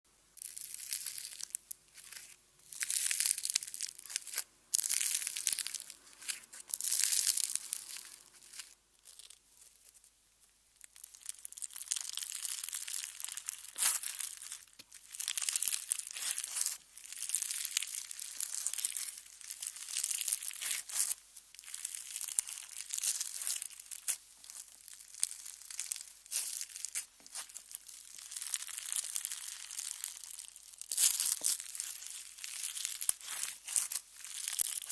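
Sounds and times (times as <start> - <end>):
slime crackling and popping: 0.4 - 10.0, 10.8 - 34.9.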